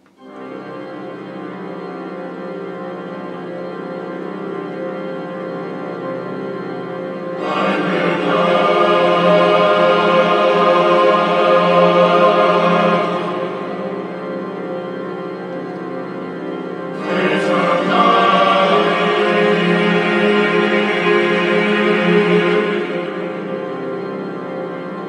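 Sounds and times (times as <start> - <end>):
slow choral music: 0.0 - 25.0
low held drone: 0.2 - 25.0.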